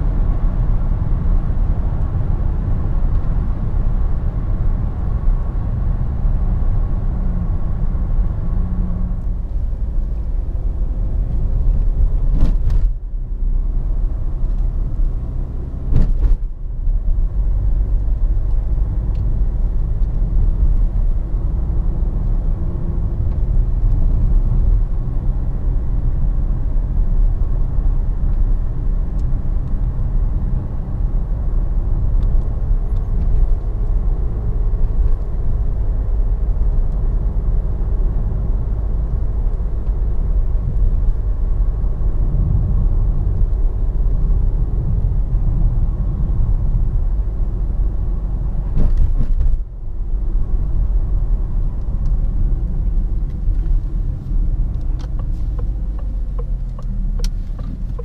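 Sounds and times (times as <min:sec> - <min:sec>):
tyre and road rumble: 0:00.0 - 0:58.0.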